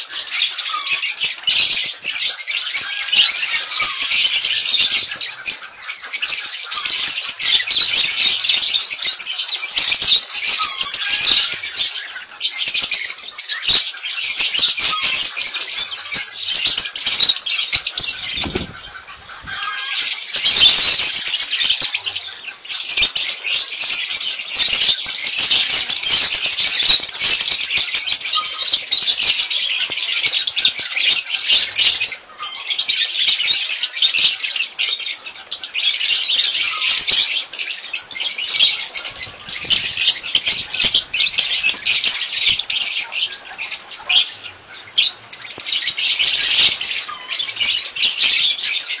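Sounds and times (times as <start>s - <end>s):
lovebirds chattering: 0.0s - 49.0s.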